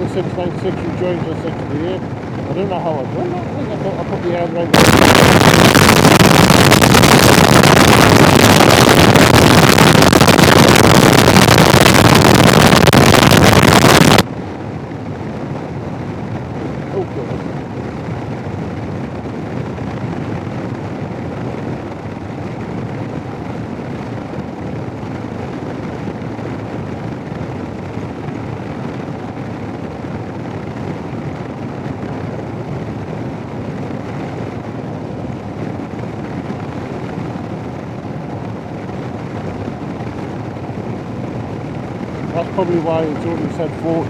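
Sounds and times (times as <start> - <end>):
motorcycle engine and road noise: 0.0 - 44.0
wind rush: 0.0 - 44.0.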